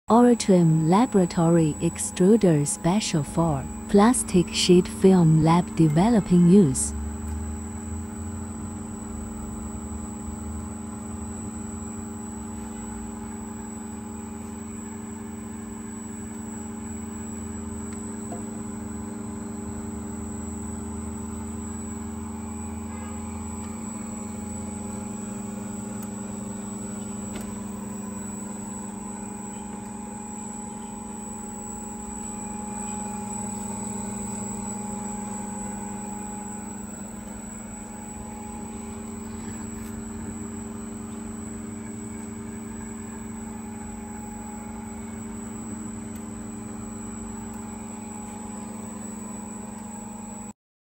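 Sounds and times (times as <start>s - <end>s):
extruder motors humming: 0.1s - 50.0s.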